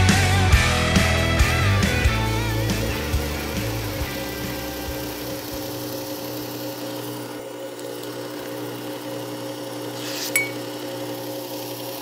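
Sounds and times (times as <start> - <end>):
knife sharpener motor humming: 2.2 - 12.0.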